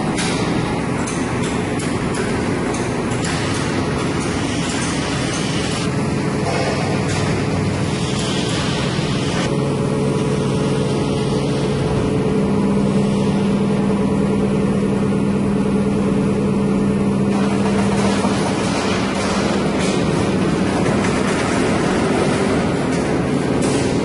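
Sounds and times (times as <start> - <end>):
industrial noise: 0.0 - 24.0.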